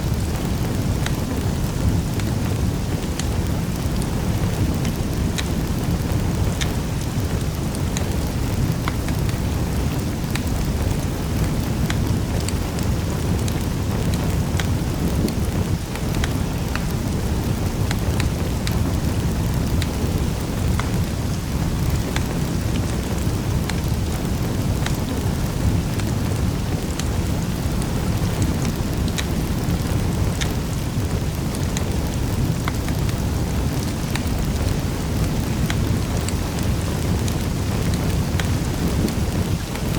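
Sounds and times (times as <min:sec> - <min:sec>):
fire crackles and pops: 0:00.0 - 0:39.9
fireplace fire rumbling: 0:00.0 - 0:39.9.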